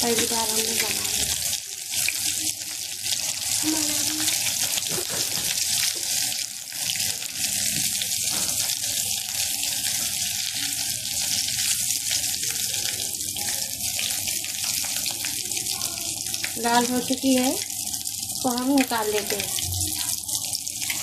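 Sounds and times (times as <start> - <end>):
food deep-frying in hot oil: 0.0 - 21.0.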